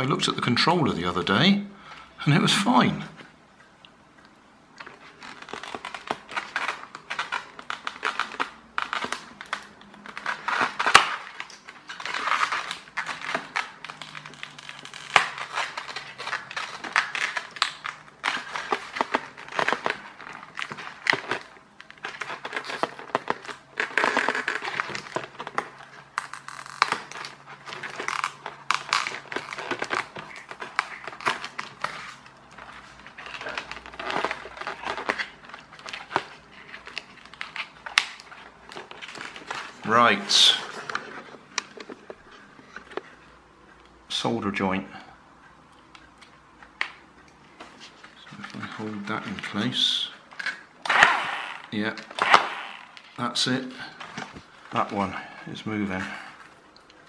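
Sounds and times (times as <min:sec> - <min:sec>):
foam and plastic crinkling: 0:04.8 - 0:43.8, 0:46.2 - 0:57.0.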